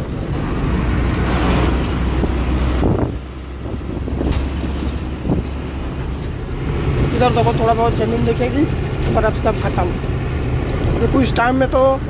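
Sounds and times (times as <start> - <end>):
wind noise: 0.0 - 11.4
truck engine and road drone: 0.0 - 12.0.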